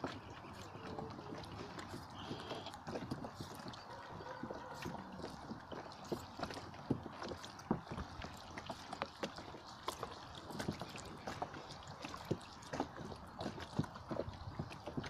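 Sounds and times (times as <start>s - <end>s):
waves lapping against shore: 0.0s - 15.0s.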